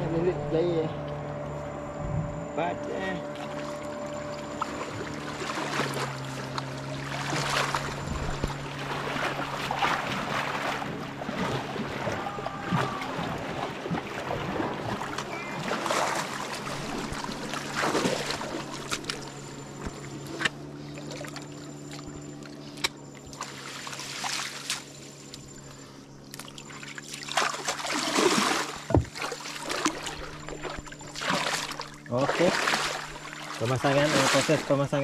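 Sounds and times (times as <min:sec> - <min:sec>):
boat engine idling: 0:00.0 - 0:35.0
water splashing and sloshing: 0:00.0 - 0:35.0.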